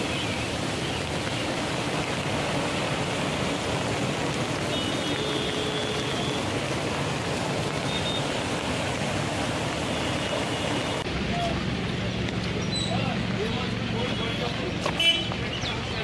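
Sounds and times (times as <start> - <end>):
rain falling: 0.0 - 15.6.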